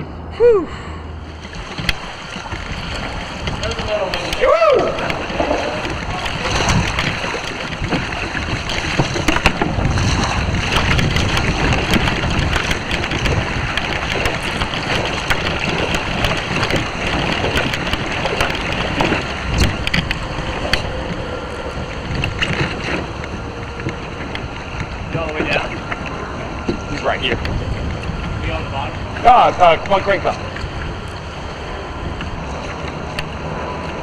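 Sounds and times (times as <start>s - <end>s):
wind buffeting microphone: 1.0s - 34.0s
water slapping against hull: 1.2s - 34.0s.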